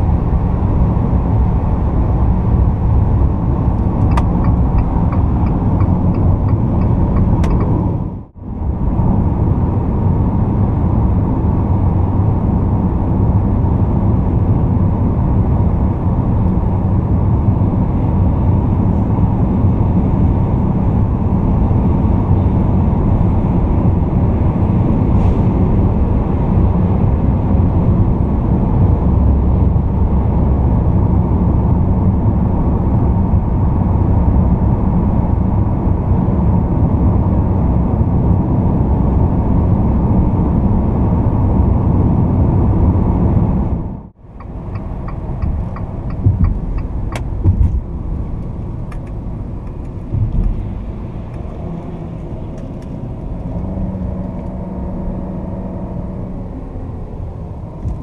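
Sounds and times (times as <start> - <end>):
tyre and engine rumble: 0.0 - 58.0.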